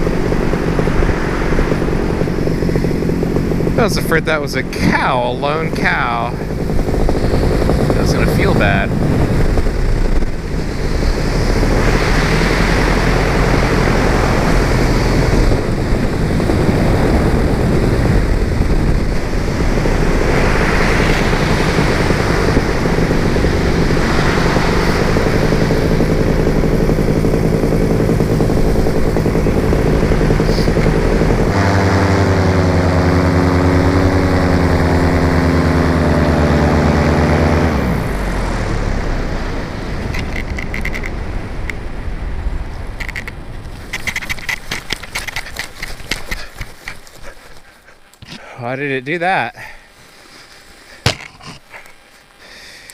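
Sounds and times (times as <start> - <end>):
two-stroke engine running: 0.0 - 48.6
propeller and wind noise: 0.0 - 52.9.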